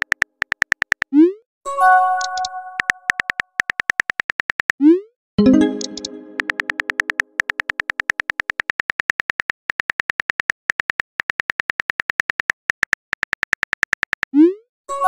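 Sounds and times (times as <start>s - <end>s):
phone keyboard typing clicks: 0.0s - 1.1s, 2.2s - 4.8s, 5.5s - 14.3s.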